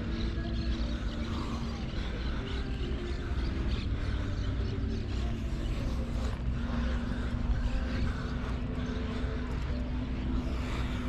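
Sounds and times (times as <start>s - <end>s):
distant engine droning: 0.0s - 11.0s
low rumble: 1.0s - 11.0s.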